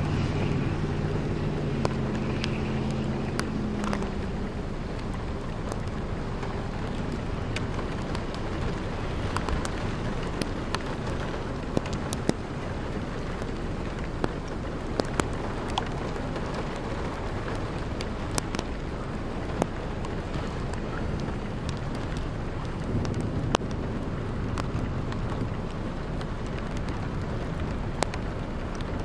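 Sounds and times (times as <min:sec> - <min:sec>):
raindrops ticking on surfaces: 0:00.0 - 0:29.0
rushing wind and rain: 0:00.0 - 0:29.0.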